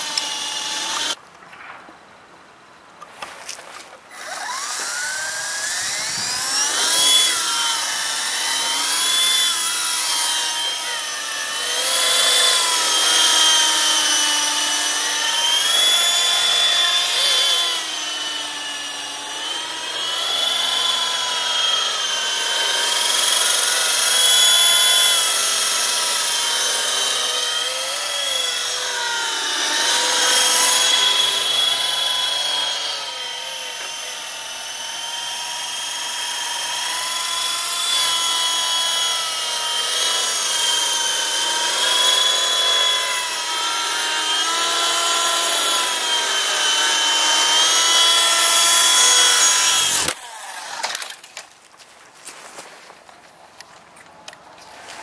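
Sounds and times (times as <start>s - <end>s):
toy helicopter motor and rotor whine: 0.0s - 1.2s, 4.1s - 51.3s.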